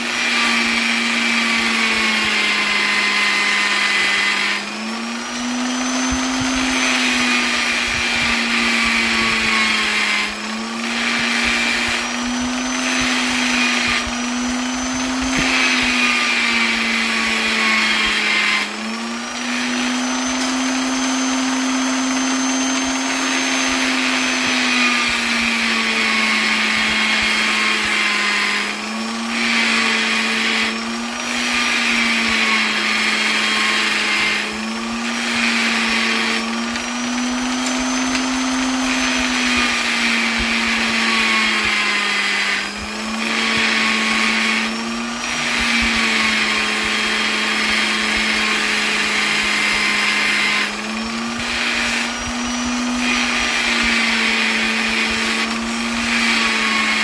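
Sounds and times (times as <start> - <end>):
electric polisher motor whine: 0.0 - 57.0.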